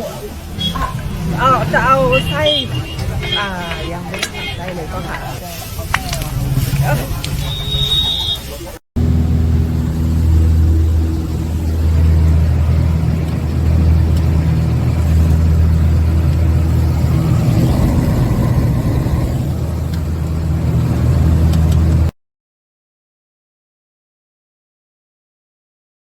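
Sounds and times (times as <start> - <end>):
engine droning: 0.0 - 8.4, 9.0 - 22.1.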